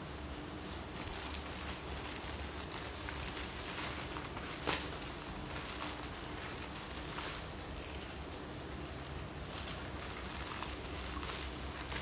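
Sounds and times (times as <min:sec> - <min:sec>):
plastic mailer bag crinkling: 0:00.6 - 0:12.0.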